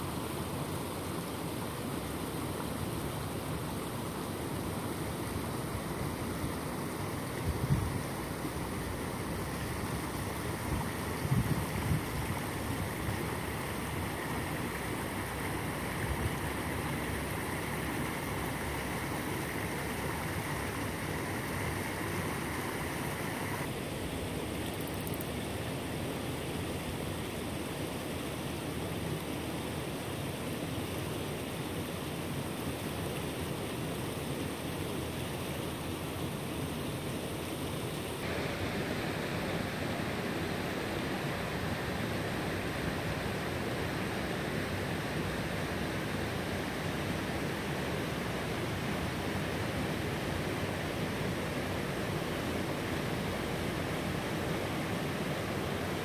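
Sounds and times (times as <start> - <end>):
water rushing over spillway: 0.0 - 56.0.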